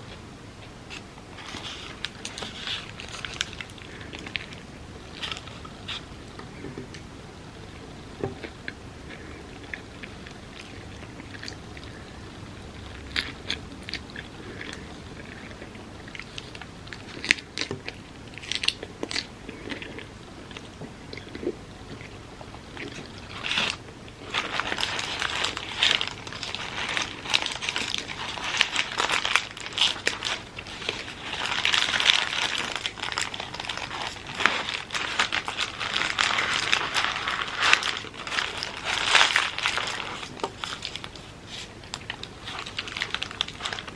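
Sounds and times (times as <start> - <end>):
person chewing food: 8.2 - 43.9.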